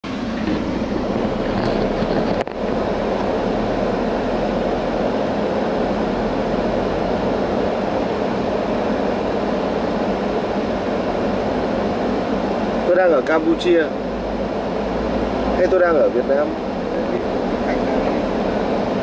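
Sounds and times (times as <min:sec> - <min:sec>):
car cabin road and engine drone: 0:00.0 - 0:19.0.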